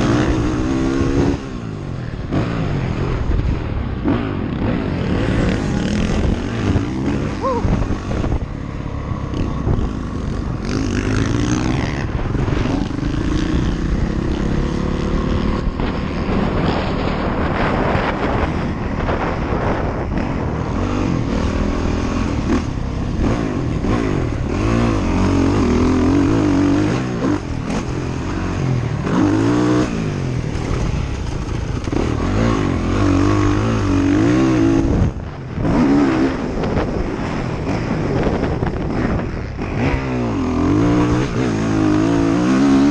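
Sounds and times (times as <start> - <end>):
off-road vehicle engine revving: 0.0 - 1.6, 9.2 - 42.9
wind buffeting microphone: 0.0 - 42.9.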